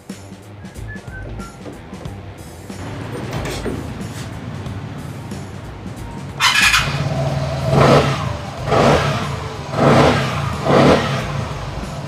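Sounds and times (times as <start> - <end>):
scooter engine idling and revving: 0.0 - 12.0.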